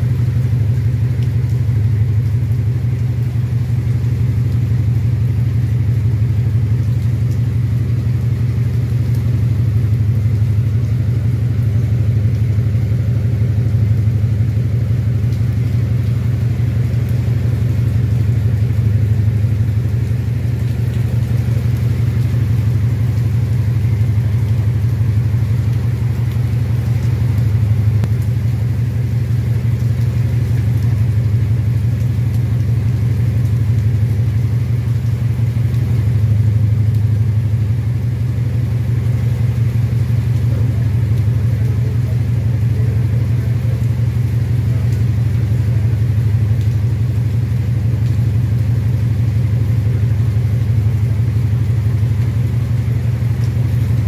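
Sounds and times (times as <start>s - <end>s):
faint rain hiss: 0.0s - 54.0s
vehicle engine idling: 0.0s - 54.0s.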